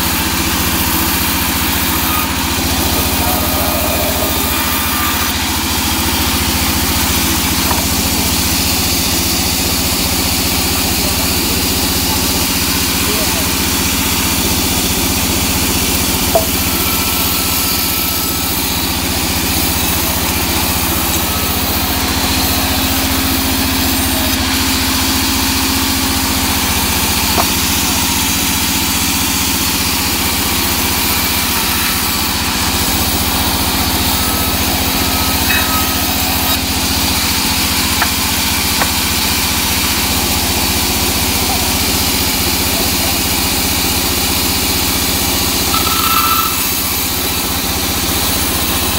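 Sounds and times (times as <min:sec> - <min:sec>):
band saw running: 0:00.0 - 0:48.9.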